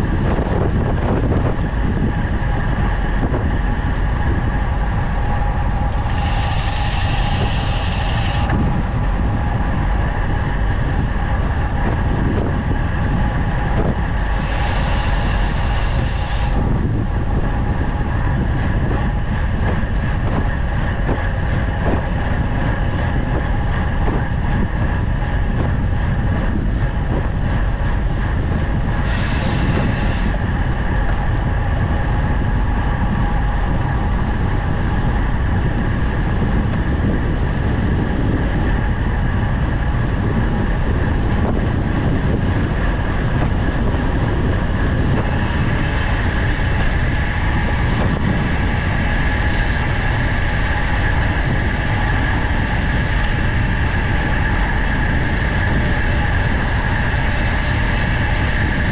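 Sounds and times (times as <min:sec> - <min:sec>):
wind rush on microphone: 0:00.0 - 0:58.9.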